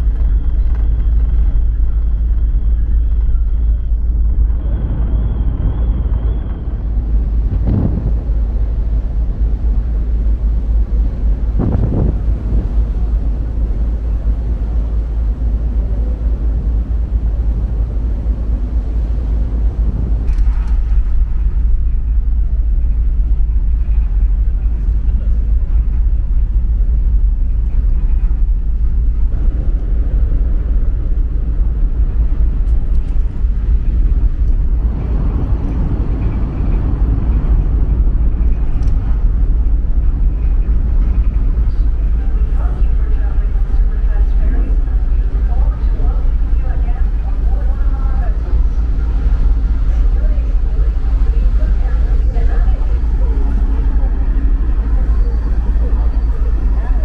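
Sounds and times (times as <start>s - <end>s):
low diesel engine rumble: 0.0s - 57.0s.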